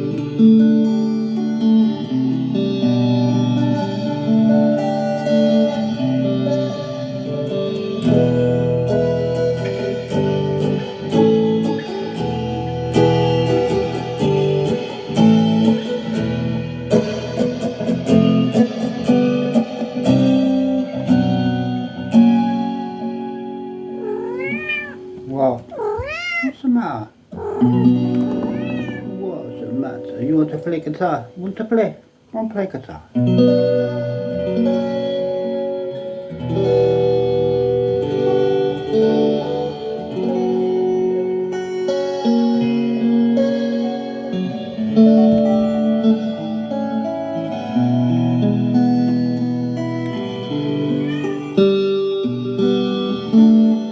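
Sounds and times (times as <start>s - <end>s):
guitar picked notes and chords: 0.0s - 53.9s.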